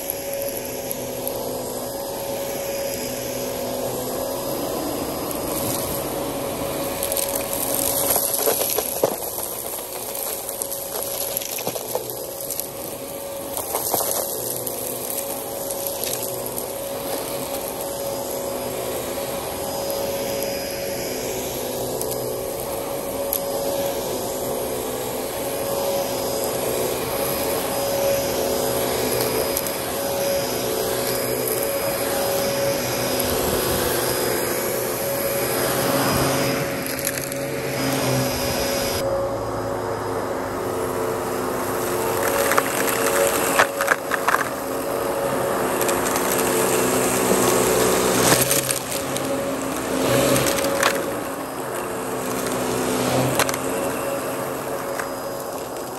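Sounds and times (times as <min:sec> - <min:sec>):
grit crackling through vacuum: 0:00.0 - 0:39.1, 0:40.7 - 0:55.9
vacuum cleaner running: 0:00.0 - 0:55.9.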